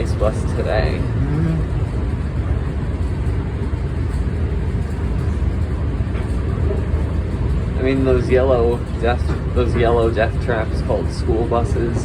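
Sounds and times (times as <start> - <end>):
rumble of moving train: 0.0 - 12.0.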